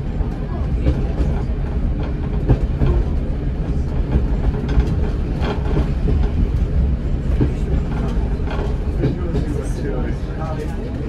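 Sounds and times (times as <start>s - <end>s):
train engine and wheels rumbling: 0.0s - 11.0s
wheels clicking over rail joints: 0.3s - 9.8s.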